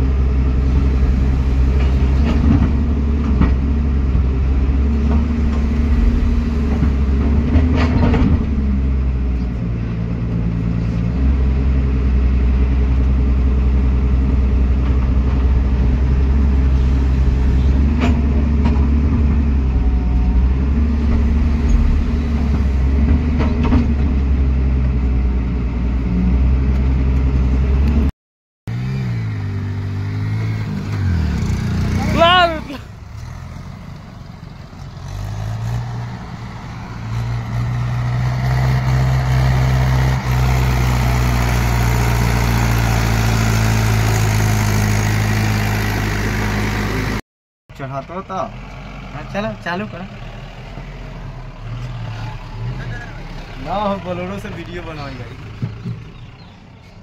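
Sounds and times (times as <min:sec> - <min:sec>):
excavator diesel engine running: 0:00.0 - 0:28.1, 0:28.7 - 0:47.2, 0:47.8 - 0:57.0.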